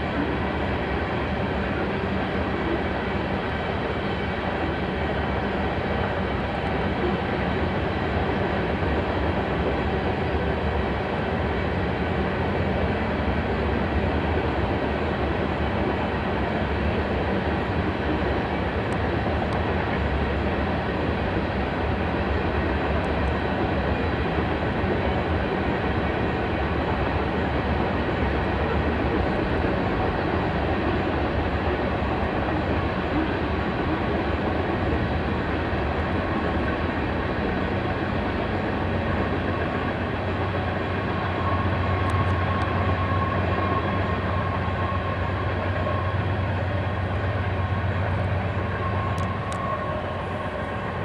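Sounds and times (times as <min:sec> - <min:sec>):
train wheels rolling on rail: 0:00.0 - 0:51.0.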